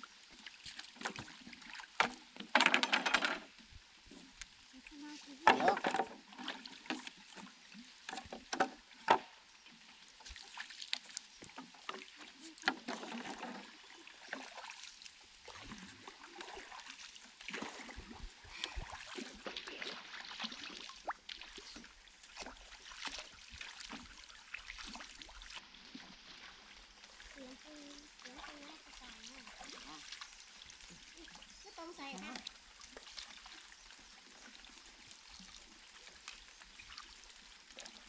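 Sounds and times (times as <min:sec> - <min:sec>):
water sloshing and splashing: 0:00.0 - 0:38.0.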